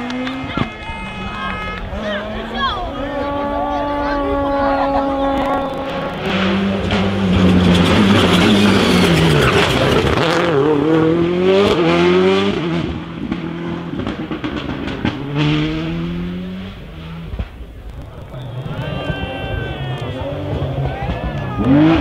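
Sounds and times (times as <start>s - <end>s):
rally car engine passing: 0.0s - 22.0s.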